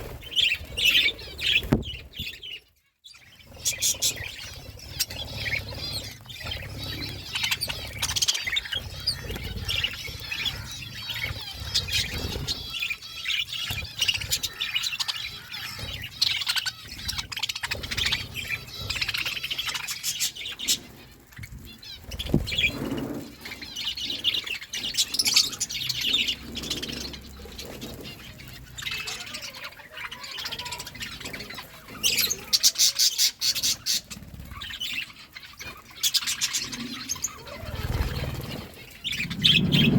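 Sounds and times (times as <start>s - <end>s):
budgies chattering and chirping: 0.0s - 39.9s.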